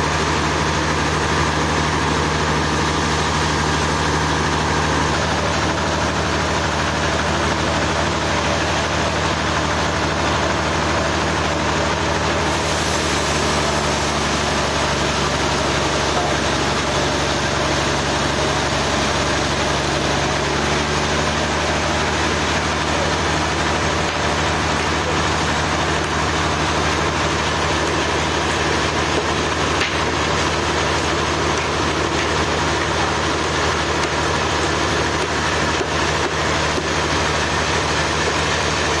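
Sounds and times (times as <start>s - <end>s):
sawmill engine humming: 0.0s - 39.0s.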